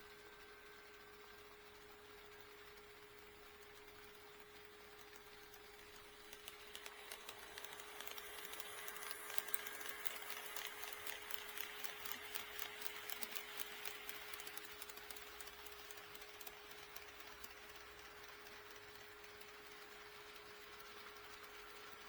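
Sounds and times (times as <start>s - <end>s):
model train wheels clicking: 0.0s - 22.0s.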